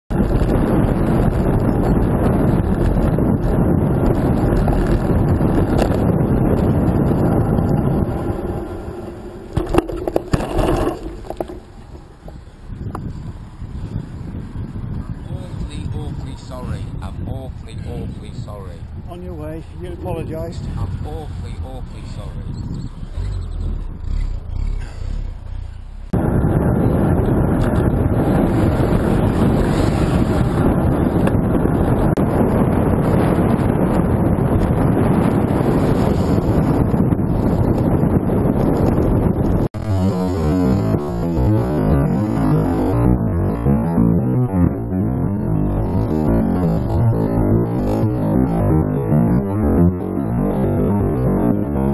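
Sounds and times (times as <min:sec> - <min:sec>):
wind buffeting microphone: 0:00.1 - 0:51.9.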